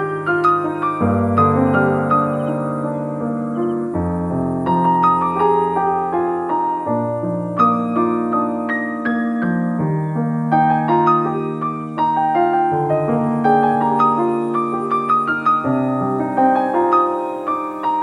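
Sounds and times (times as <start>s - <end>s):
gentle solo piano music: 0.0s - 18.0s.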